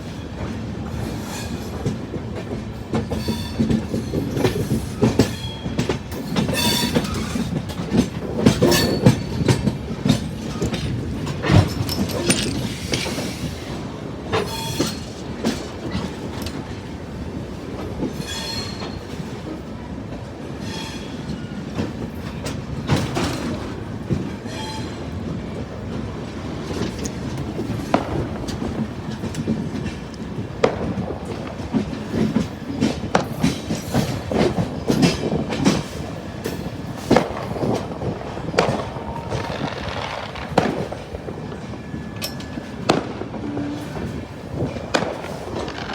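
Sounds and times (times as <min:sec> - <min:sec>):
train rumble: 0:00.0 - 0:45.9
train wheels clattering over rail joints: 0:00.3 - 0:45.9.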